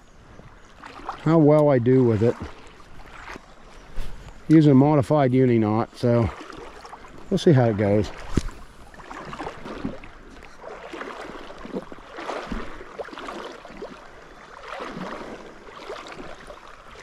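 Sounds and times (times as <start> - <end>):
river water splashing around legs: 0.0 - 17.0.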